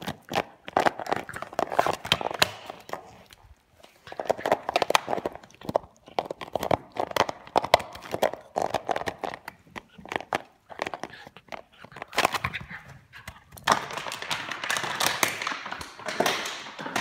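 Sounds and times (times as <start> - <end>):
dog chewing plastic bottle: 0.0 - 17.0.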